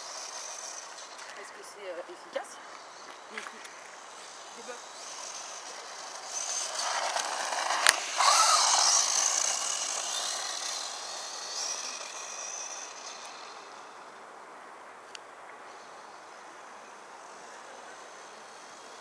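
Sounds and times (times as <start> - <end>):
toy truck motor whine: 0.0 - 14.2, 15.7 - 19.0
tyres on gravel: 0.0 - 15.8.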